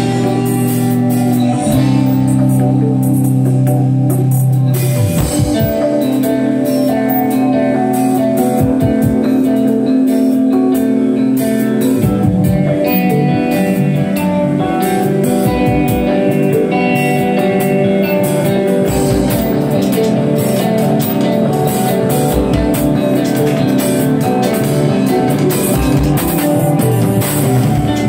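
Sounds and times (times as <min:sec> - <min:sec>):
bass guitar: 0:00.0 - 0:28.0
drumming with cymbal hits: 0:00.0 - 0:28.0
electric guitar chords: 0:00.0 - 0:28.0.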